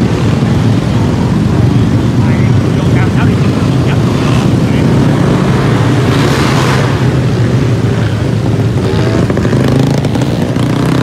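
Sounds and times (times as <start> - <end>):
scooter and motorbike engines droning: 0.0 - 11.0.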